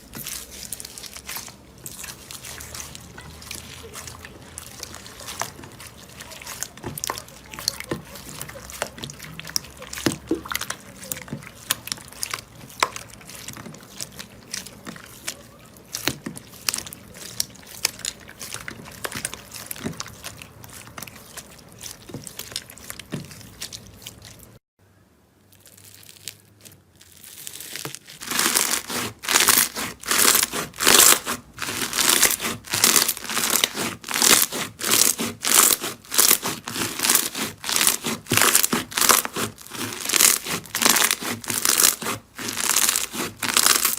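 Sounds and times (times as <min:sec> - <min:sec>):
rhythmic slime crackling presses: 0:00.0 - 0:24.6, 0:25.6 - 0:43.9.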